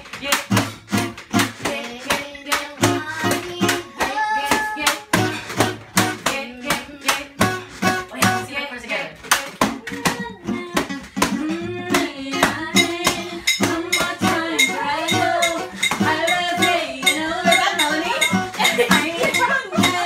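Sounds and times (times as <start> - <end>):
acoustic guitar strumming: 0.3 - 8.8, 9.5 - 20.0
person singing: 1.4 - 8.4, 9.3 - 20.0.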